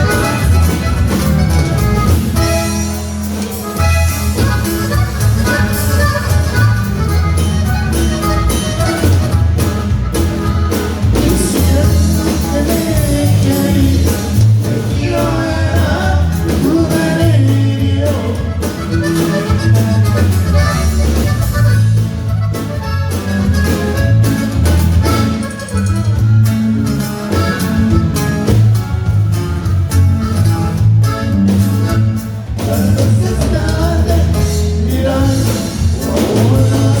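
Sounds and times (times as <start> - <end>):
accordion melody: 0.0 - 37.0
bouncing bass beat: 0.0 - 37.0.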